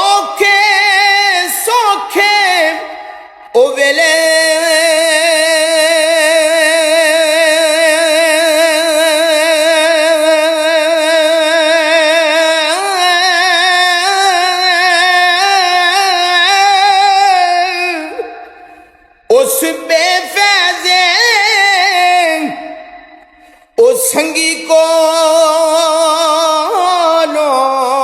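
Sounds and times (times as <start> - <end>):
person singing with vibrato: 0.0 - 28.0.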